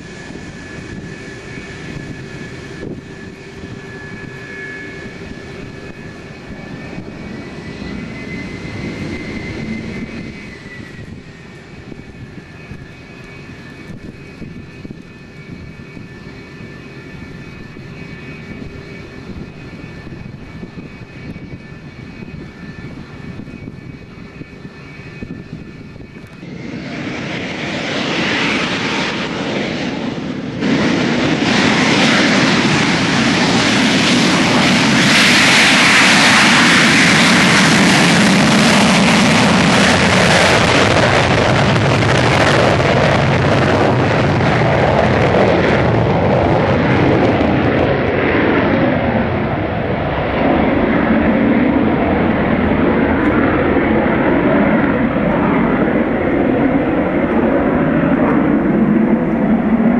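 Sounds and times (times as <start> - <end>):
jet engine whining and spooling up: 0.0 - 59.9.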